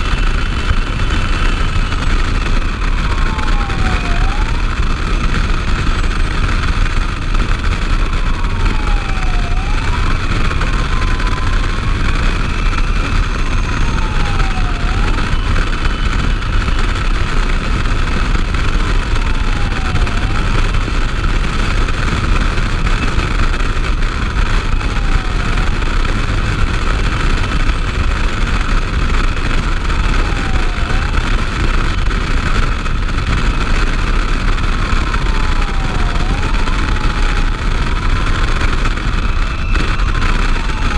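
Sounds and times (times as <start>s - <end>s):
road and engine rumble: 0.0s - 40.9s
siren wailing: 0.0s - 40.9s
wind buffeting microphone: 0.0s - 40.9s.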